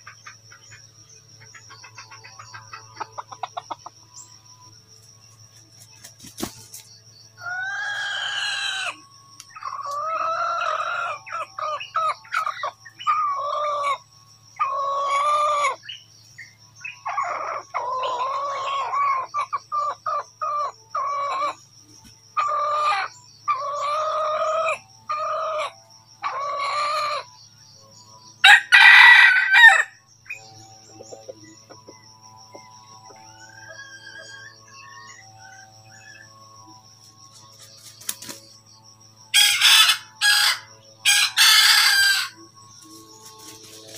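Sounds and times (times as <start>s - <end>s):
high-pitched whine: 0.0s - 43.9s.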